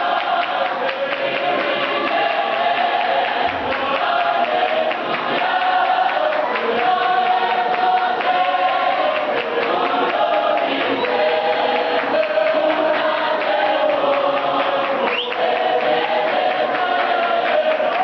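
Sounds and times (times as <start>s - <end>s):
choir singing in harmony: 0.0s - 18.0s
hand claps: 0.0s - 18.0s.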